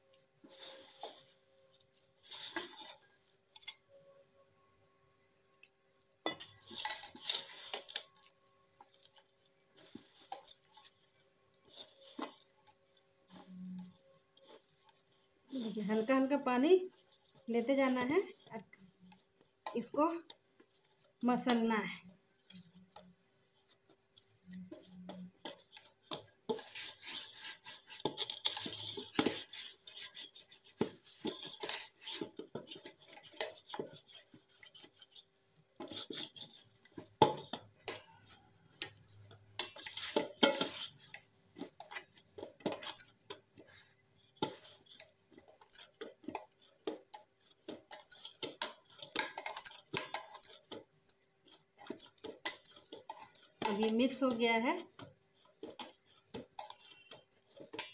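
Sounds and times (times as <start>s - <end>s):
hands kneading dough in steel bowl: 0.0s - 4.0s, 6.2s - 57.9s.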